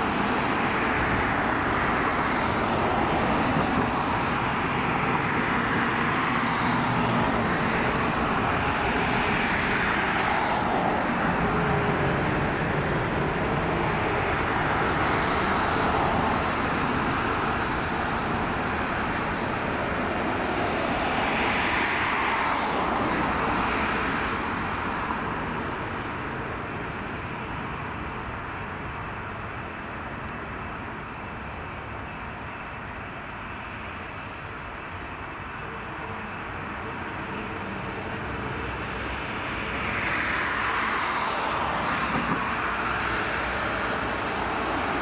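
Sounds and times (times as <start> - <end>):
rushing engine noise: 0.0 - 45.0.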